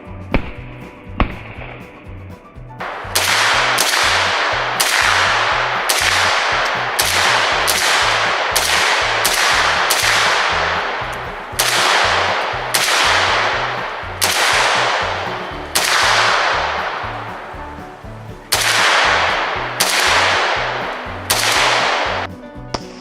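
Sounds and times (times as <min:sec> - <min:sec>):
rifle shots echoing: 0:00.3 - 0:01.9, 0:02.8 - 0:23.0.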